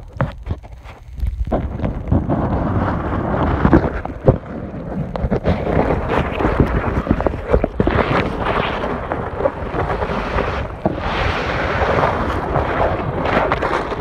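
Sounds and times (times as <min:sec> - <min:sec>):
muffled underwater water sloshing: 0:01.2 - 0:14.0.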